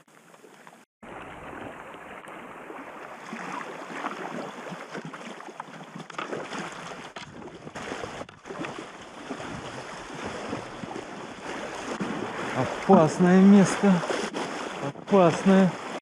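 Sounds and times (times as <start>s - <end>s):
river water splashing and rushing: 0.0s - 16.0s.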